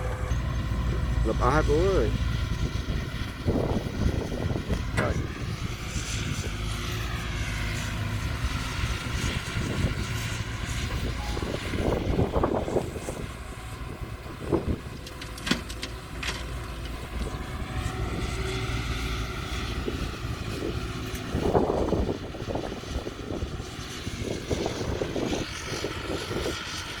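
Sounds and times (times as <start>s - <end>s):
heavy machinery diesel engine: 0.0s - 27.0s.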